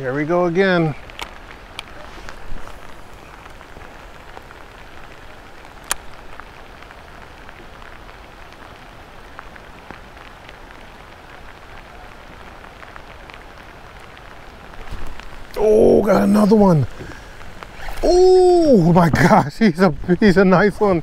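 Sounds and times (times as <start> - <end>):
rain falling on a lake: 0.0 - 21.0.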